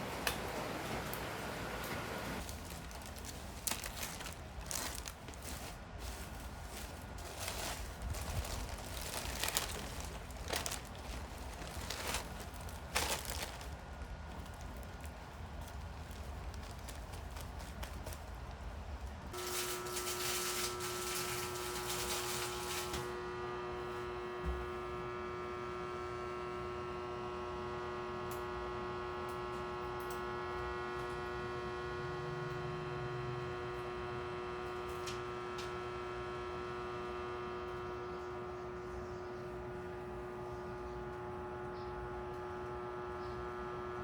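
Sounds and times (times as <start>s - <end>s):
steady electric hum: 0.0s - 44.0s.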